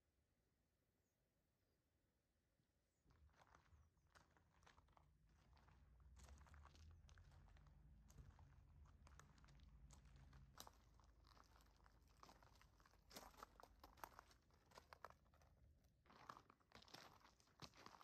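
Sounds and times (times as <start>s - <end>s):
faint footsteps on gravel: 3.0s - 18.0s.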